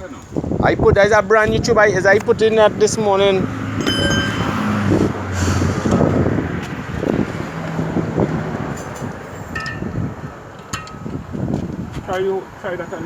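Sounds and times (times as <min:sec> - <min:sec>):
vehicle engine humming: 0:00.4 - 0:12.6.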